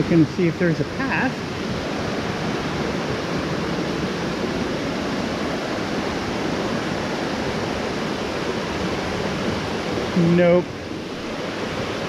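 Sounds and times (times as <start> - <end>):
rushing creek water: 0.0 - 12.0.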